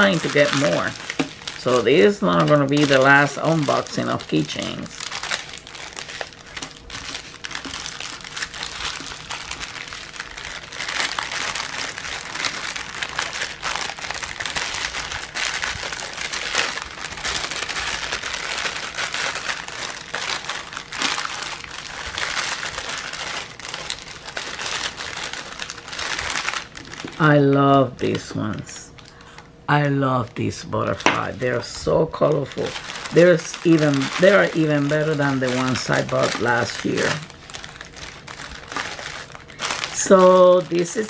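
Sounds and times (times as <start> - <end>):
plastic bag crinkling: 0.0 - 41.0.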